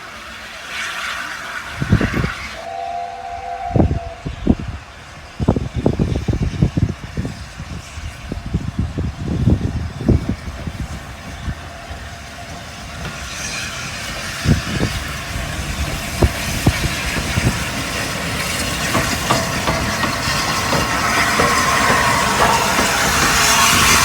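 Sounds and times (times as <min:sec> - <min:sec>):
train approaching: 0:00.0 - 0:24.0
wind buffeting microphone: 0:01.7 - 0:24.0.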